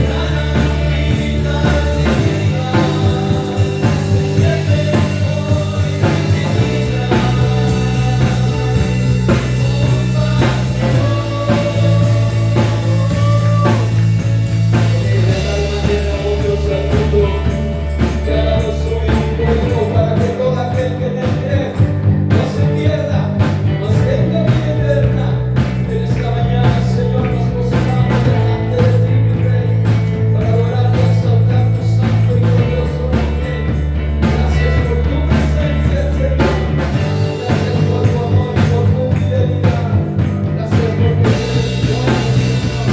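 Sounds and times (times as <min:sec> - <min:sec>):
bass chords: 0:00.0 - 0:42.9
drums: 0:00.0 - 0:42.9
guitar: 0:00.0 - 0:42.9.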